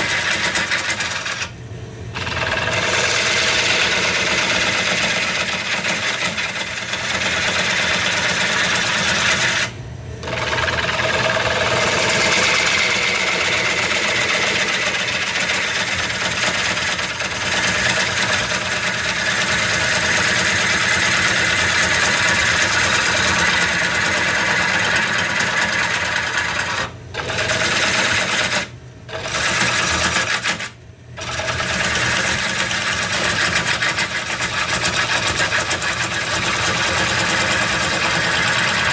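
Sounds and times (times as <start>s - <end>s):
gouge cutting wood on lathe: 0.0s - 1.5s, 2.2s - 38.9s.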